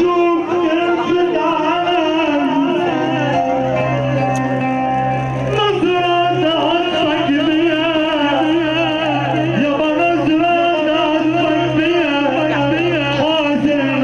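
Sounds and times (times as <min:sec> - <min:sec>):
person singing ornamented vocal line: 0:00.0 - 0:04.2, 0:05.5 - 0:14.0
held chord: 0:00.0 - 0:14.0.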